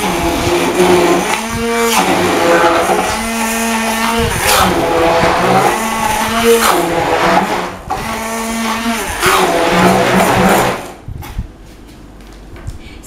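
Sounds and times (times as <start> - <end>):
immersion blender running: 0.0 - 11.0.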